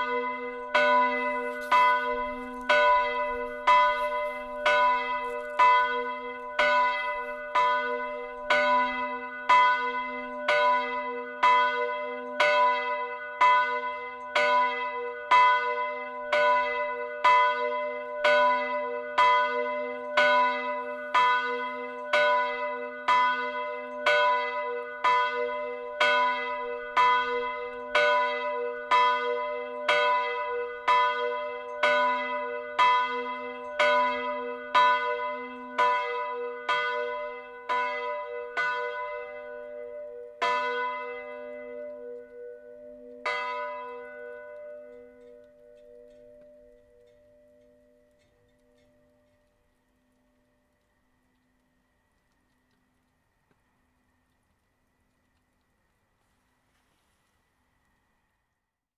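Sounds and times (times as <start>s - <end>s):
church bell ringing: 0.0s - 50.8s.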